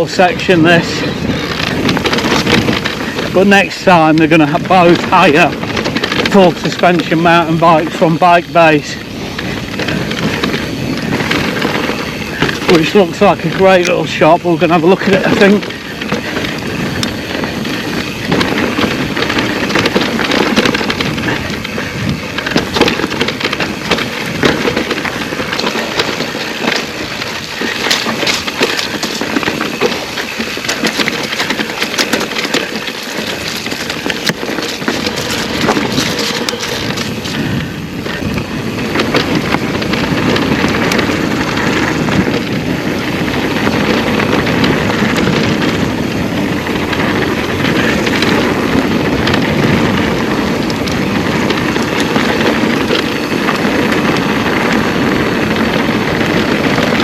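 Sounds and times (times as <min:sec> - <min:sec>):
bike rattling: 0:00.0 - 0:57.0
tyre noise: 0:00.0 - 0:57.0
wind rushing over microphone: 0:00.0 - 0:57.0.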